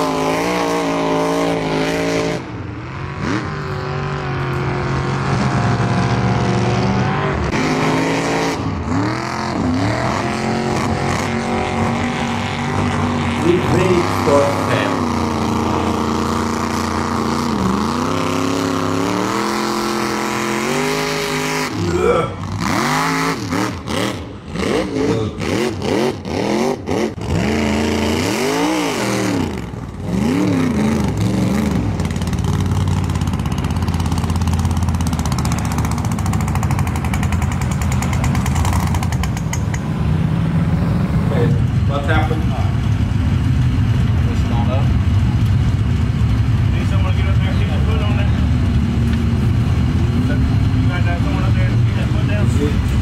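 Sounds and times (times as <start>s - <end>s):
truck engines revving: 0.0s - 53.0s.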